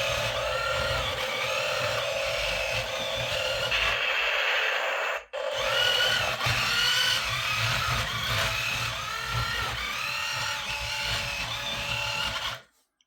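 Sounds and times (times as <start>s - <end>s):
toy tank buzzy rumble and whine: 0.0s - 12.7s.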